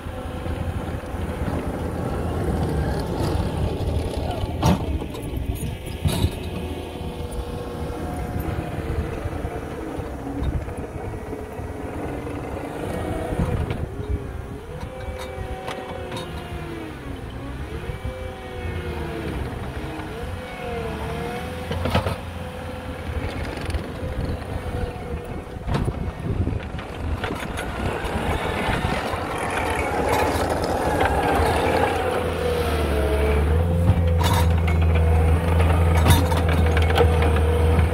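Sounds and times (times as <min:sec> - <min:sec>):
diesel engine under load: 0:00.0 - 0:37.9.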